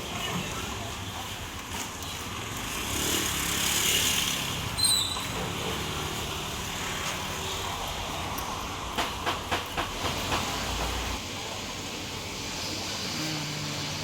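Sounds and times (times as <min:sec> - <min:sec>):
busy food court noise: 0:00.0 - 0:14.0.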